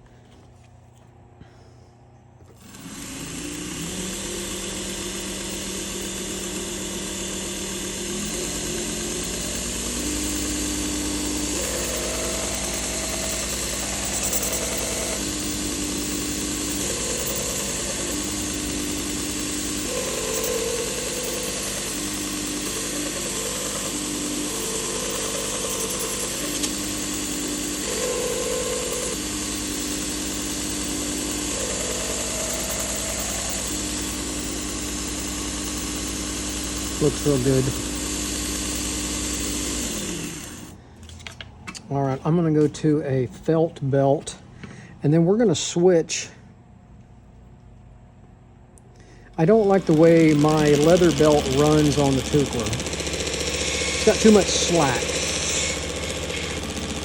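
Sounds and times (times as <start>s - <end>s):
belt grinder grinding knife blade: 2.5s - 41.4s, 49.4s - 57.0s.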